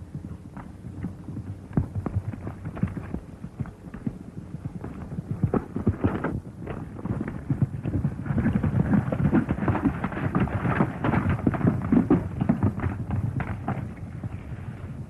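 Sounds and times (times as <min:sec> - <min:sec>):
film soundtrack hum: 0:00.0 - 0:15.0
horse hoofbeats on rocky trail: 0:00.0 - 0:15.0.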